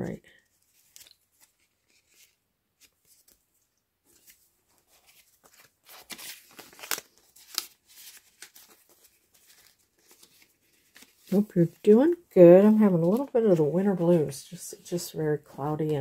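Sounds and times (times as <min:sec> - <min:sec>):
paper cards rustling and scraping: 0:00.5 - 0:14.4.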